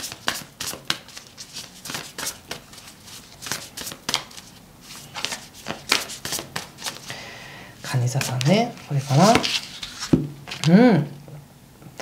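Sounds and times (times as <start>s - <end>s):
cards shuffling: 0.0s - 7.2s, 7.9s - 10.8s.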